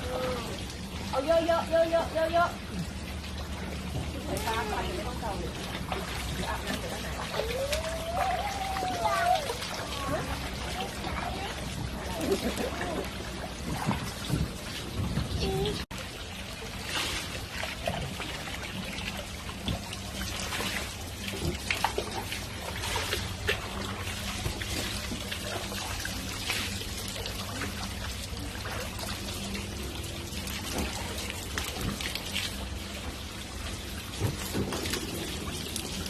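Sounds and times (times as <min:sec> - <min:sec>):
small water splashes: 0:00.0 - 0:36.0
water pouring and trickling: 0:00.0 - 0:36.0.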